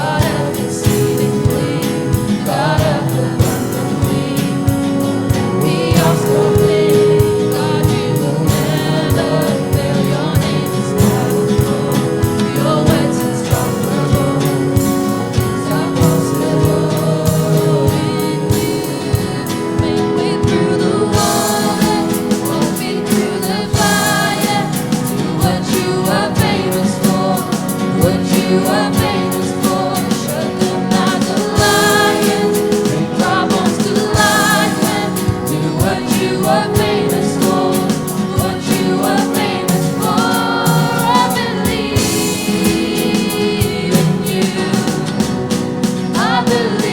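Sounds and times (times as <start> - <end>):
band accompanying: 0.0 - 46.9
choir singing in harmony: 0.0 - 46.9
steady drum beat: 0.0 - 46.9.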